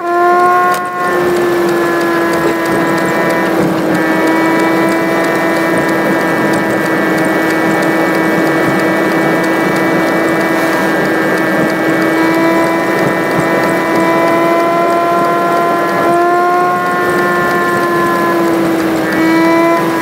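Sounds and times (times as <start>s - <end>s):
car engine droning hum: 0.0s - 20.0s
road noise rushing: 0.0s - 20.0s.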